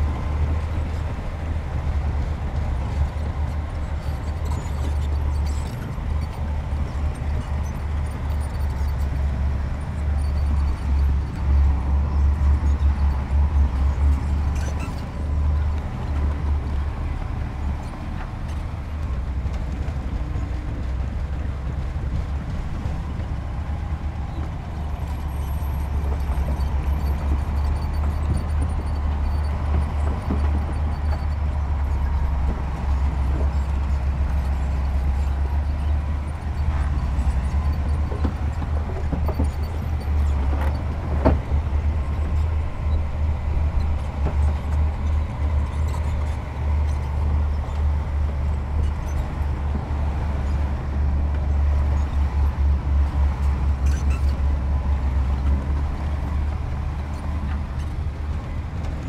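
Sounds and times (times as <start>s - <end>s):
heavy diesel machinery rumbling: 0.0s - 59.0s.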